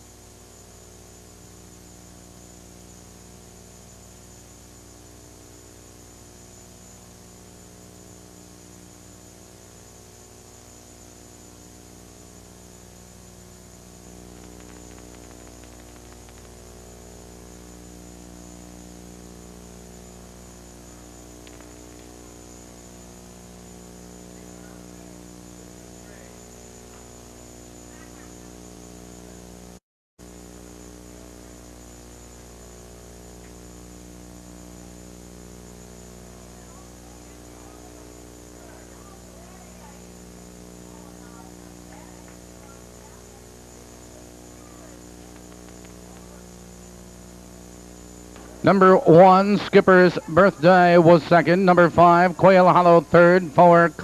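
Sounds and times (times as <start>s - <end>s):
background hiss: 0.0s - 29.4s, 33.4s - 54.0s
electrical mains hum: 0.0s - 54.0s.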